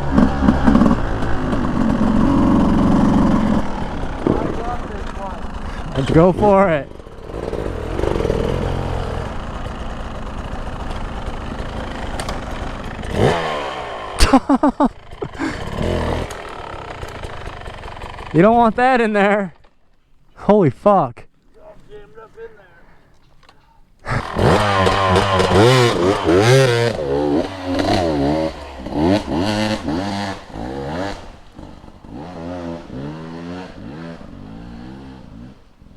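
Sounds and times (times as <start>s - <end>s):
dirt bike engine revving: 0.0s - 19.8s, 21.4s - 35.9s.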